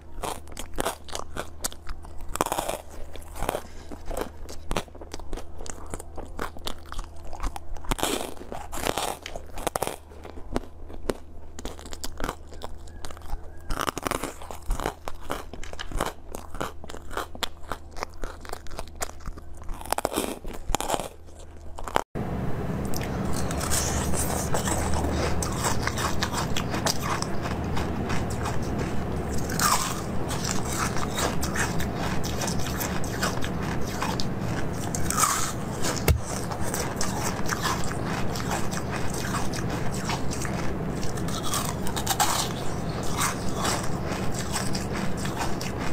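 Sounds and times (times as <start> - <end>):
crunching hard frozen sweets: 0.0 - 22.1, 22.8 - 45.9
wet chewing of jelly: 0.0 - 22.1, 22.9 - 45.9
steady low hum: 0.0 - 45.9.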